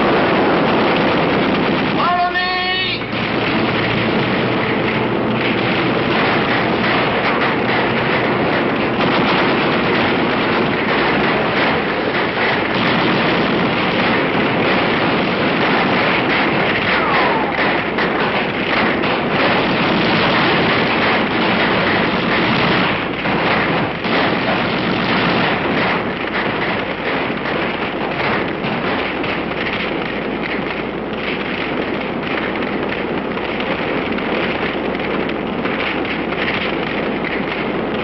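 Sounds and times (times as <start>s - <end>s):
fire crackling and popping: 0.0s - 38.0s
rushing roar of fire: 0.0s - 38.0s.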